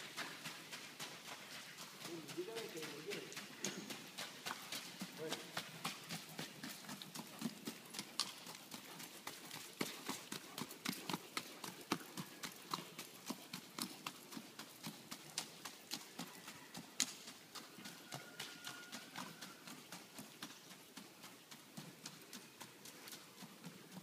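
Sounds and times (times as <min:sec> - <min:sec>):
hoofbeats on dirt and grass: 0:00.0 - 0:24.0.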